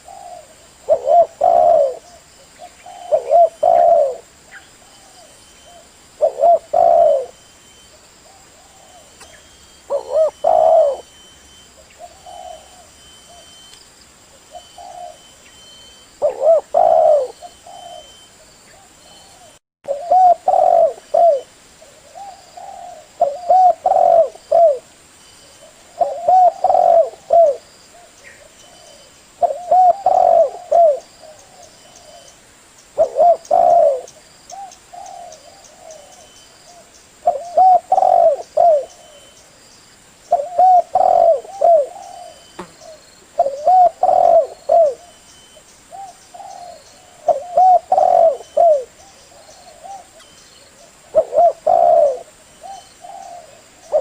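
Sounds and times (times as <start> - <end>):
dove cooing: 0.0 - 7.4, 8.2 - 13.6, 14.4 - 15.4, 16.2 - 24.9, 25.5 - 32.3, 33.0 - 39.4, 40.3 - 45.3, 45.9 - 54.0.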